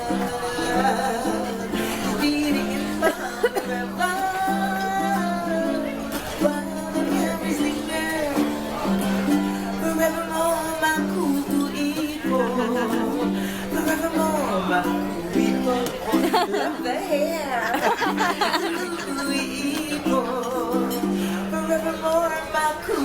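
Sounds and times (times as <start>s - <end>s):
person singing: 0.0s - 23.0s
plucked strings music: 0.0s - 23.0s.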